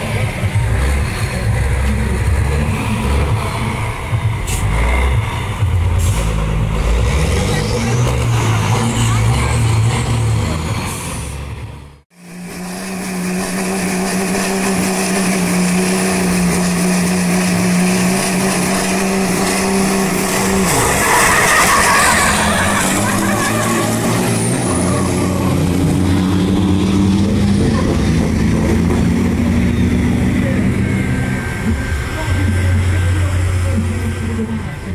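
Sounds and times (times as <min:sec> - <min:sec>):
diesel truck engines: 0:00.0 - 0:34.9.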